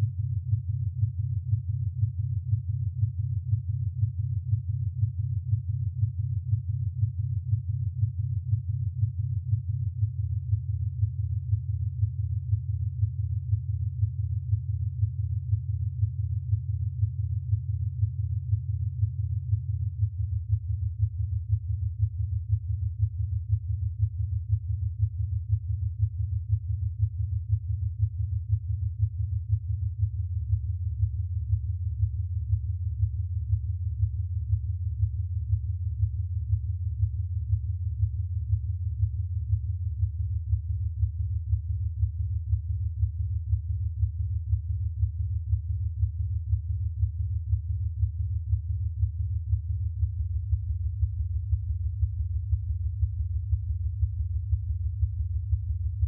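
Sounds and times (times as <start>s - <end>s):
low pulsing sine tone hum: 0.0s - 56.0s.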